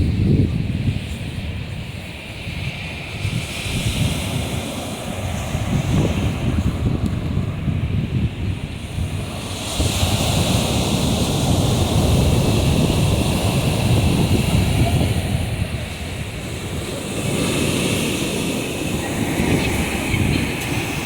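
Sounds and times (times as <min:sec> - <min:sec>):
sea surf breaking on shore: 0:00.0 - 0:21.0
wind rumbling on microphone: 0:00.0 - 0:21.0.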